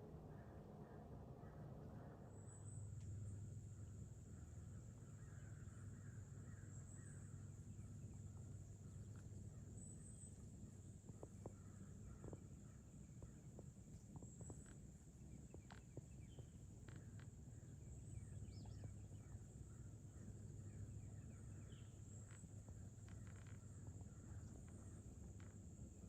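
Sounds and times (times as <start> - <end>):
low background rumble: 0.0 - 26.0
faint bird chirps: 0.3 - 26.0.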